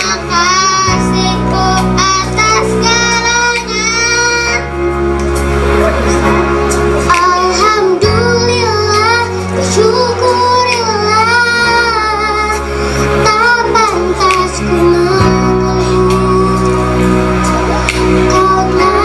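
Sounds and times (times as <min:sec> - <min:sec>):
instrumental accompaniment: 0:00.0 - 0:19.0.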